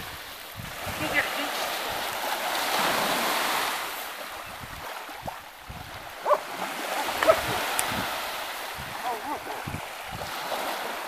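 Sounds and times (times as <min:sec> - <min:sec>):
dog splashing through surf: 0:00.0 - 0:11.0
small waves washing on shore: 0:00.0 - 0:11.0
wind on microphone: 0:00.0 - 0:11.0.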